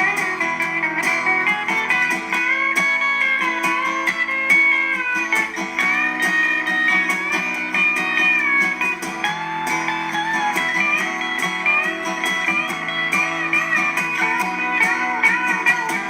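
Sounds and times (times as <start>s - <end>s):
song with guitar and beat: 0.0s - 16.0s.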